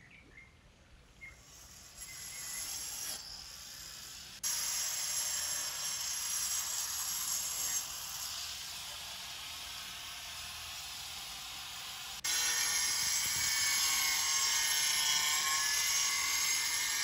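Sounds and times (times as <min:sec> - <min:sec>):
angle grinder cutting roof tiles: 0:01.4 - 0:17.0.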